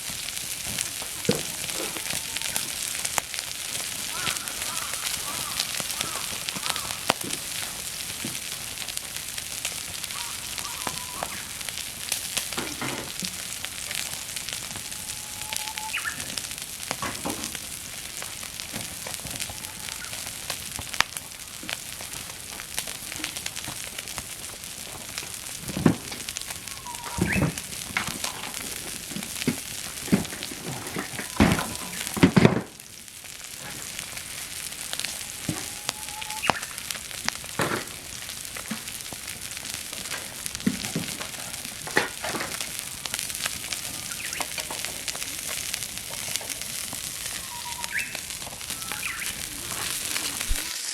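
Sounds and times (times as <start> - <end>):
meat sizzling over campfire: 0.0 - 50.9
pops and crackles: 0.0 - 50.9.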